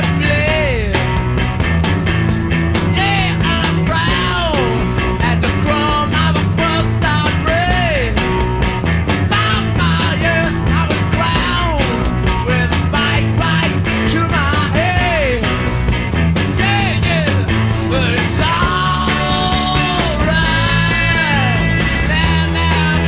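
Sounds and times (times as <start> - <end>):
rock music: 0.0 - 23.0.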